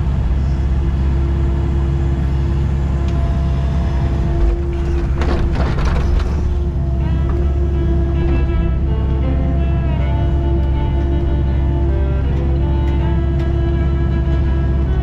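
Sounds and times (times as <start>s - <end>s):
excavator engine running: 0.0s - 15.0s
hydraulic whine: 0.0s - 15.0s.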